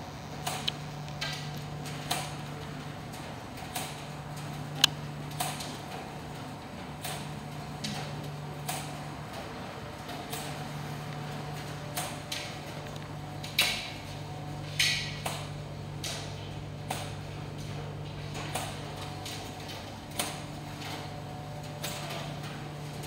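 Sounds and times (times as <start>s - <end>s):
tumble dryers humming: 0.0s - 23.0s.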